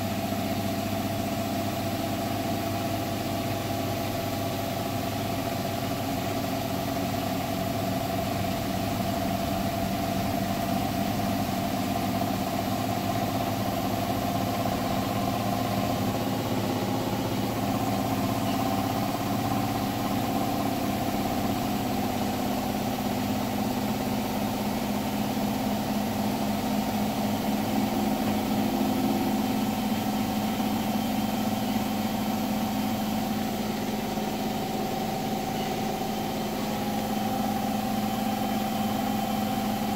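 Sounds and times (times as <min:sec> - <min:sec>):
washing machine spinning hum: 0:00.0 - 0:39.9.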